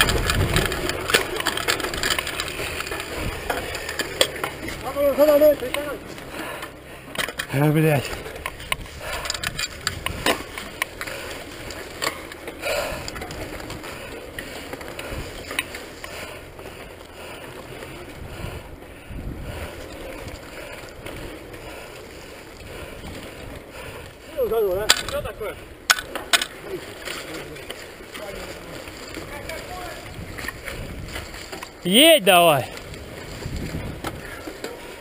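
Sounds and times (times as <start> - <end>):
bike tyres rustling on dirt: 0.0 - 35.0
mountain bike rattling over dirt: 0.0 - 35.0.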